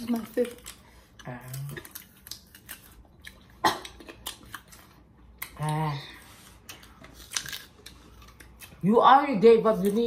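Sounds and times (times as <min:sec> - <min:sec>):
crunchy apple chewing: 0:00.0 - 0:10.0.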